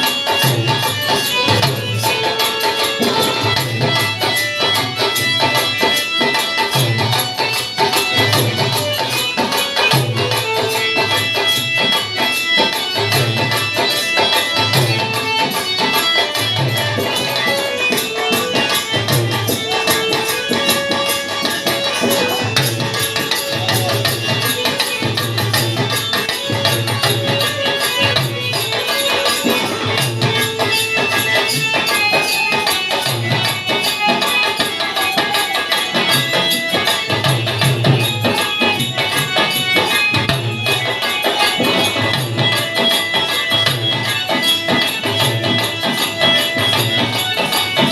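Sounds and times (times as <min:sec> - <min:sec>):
jingling cymbal percussion: 0:00.0 - 0:47.9
melodic instruments: 0:00.0 - 0:47.9.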